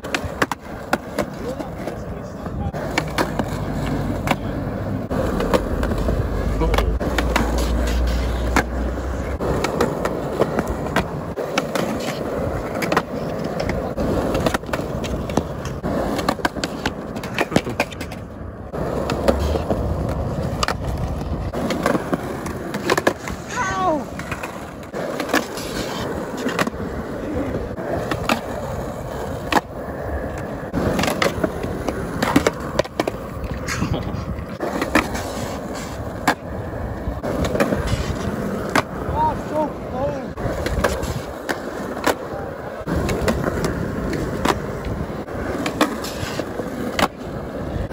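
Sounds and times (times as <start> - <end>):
skateboard clacks: 0.0 - 47.9
skateboard scraping on ledge: 0.0 - 47.9
skateboard wheels rolling on concrete: 0.0 - 47.9.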